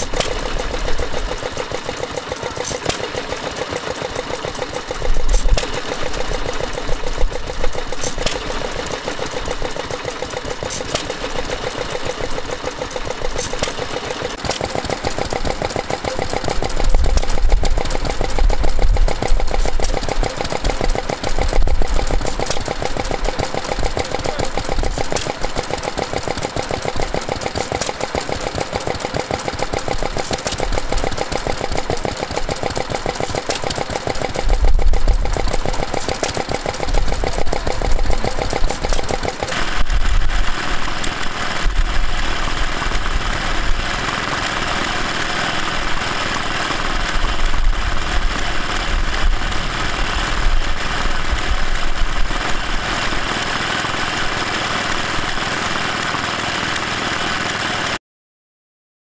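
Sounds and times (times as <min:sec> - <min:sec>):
grinding mill: 0:00.0 - 0:58.0
stationary engine running: 0:00.0 - 0:58.0.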